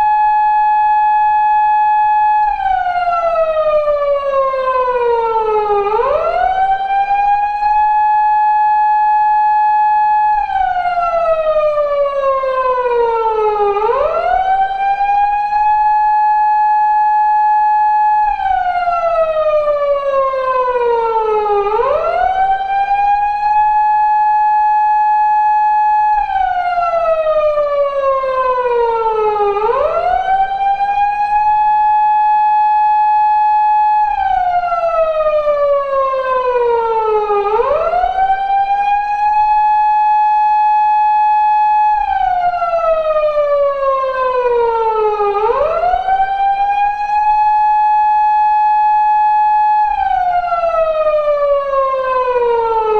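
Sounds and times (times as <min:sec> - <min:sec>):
police siren wailing: 0:00.0 - 0:52.9.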